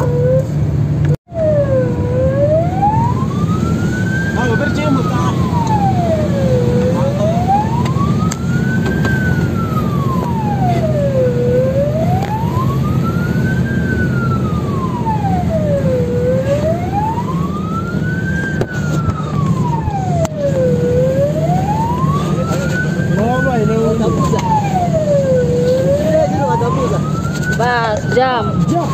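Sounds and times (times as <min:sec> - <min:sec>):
fire engine wail siren: 0:00.0 - 0:28.9
truck engine low drone: 0:00.0 - 0:28.9.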